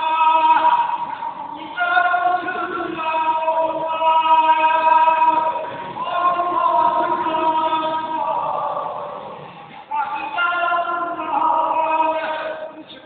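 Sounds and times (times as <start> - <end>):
mourning chant in long notes: 0.0 - 12.8.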